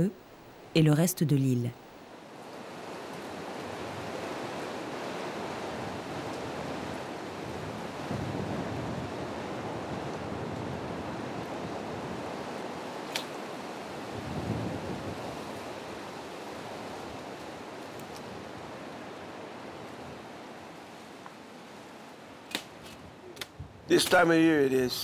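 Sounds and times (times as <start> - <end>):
distant ocean surf: 0.0 - 25.0
wind: 0.0 - 25.0.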